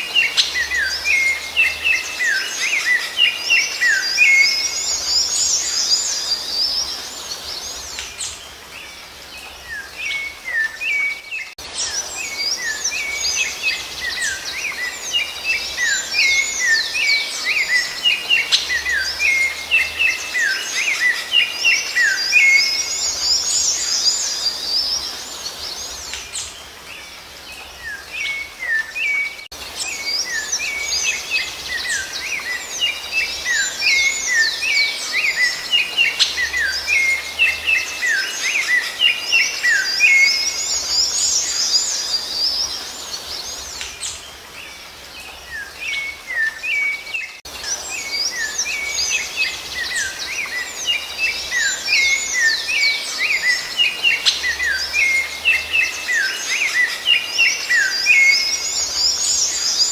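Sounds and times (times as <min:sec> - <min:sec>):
songbirds chirping and whistling: 0:00.0 - 0:59.9.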